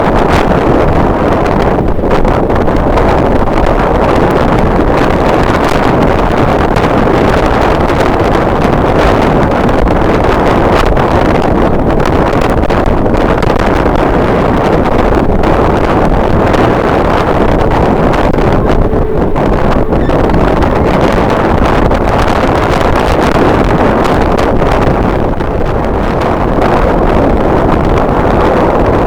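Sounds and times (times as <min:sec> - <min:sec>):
strong wind on microphone: 0:00.0 - 0:29.0.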